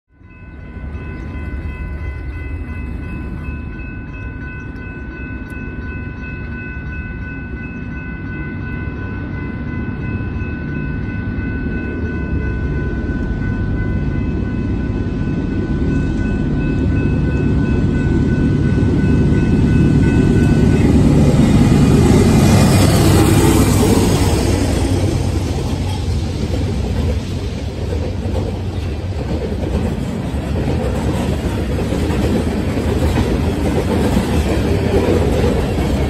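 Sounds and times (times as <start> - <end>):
crossing warning bells ringing: 0.1 - 36.0
freight train diesel rumble: 0.2 - 36.0.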